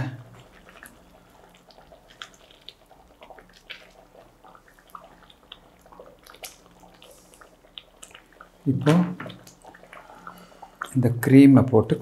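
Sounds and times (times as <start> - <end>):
thick gravy bubbling: 0.0 - 12.0.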